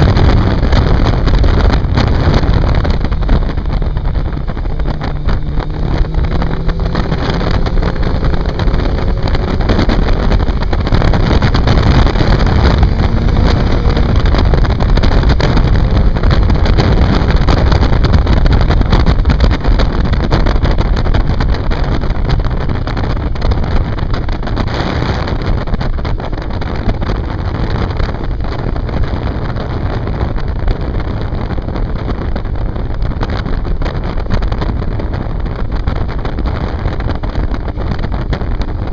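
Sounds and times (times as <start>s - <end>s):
motorcycle engine: 0.0s - 38.9s
wind rush: 0.0s - 38.9s.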